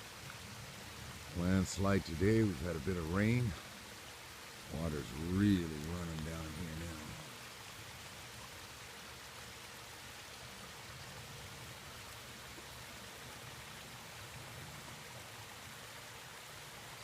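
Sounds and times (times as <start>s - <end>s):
rain falling: 0.0s - 17.0s
water pouring down a slope: 0.0s - 17.0s.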